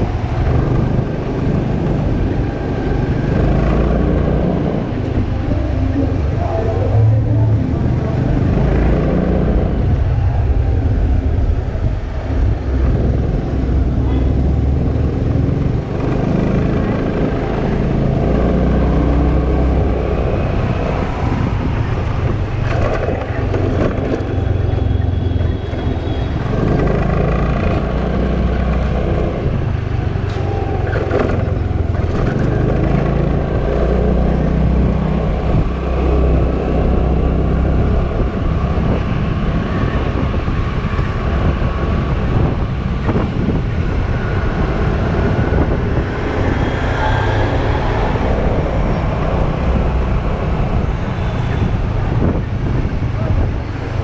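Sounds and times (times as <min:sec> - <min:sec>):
car traffic: 0:00.0 - 0:54.0
scooter engine cruising: 0:00.0 - 0:54.0
wind rumble on microphone: 0:00.0 - 0:54.0.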